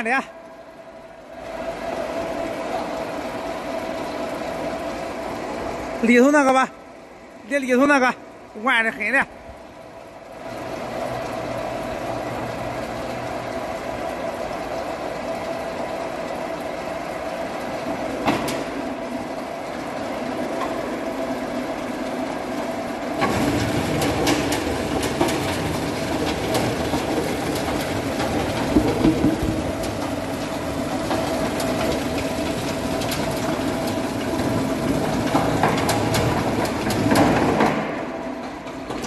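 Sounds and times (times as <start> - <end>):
log debarker humming: 0.0 - 39.0.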